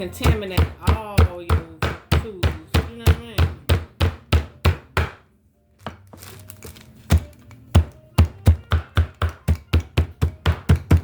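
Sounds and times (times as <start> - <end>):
meat being pounded on board: 0.0 - 5.2, 7.1 - 11.0.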